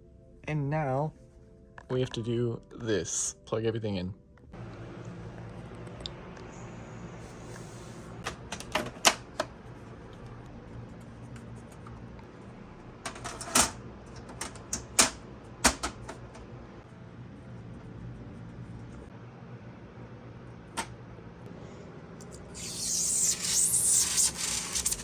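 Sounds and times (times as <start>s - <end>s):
steady low hum: 4.1s - 25.0s.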